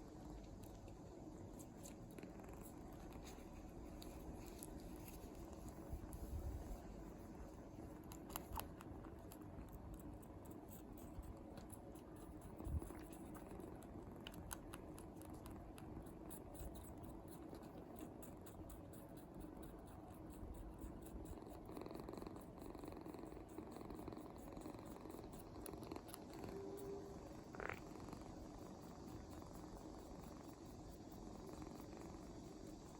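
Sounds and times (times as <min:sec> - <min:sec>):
kitten purring: 0:00.0 - 0:32.9.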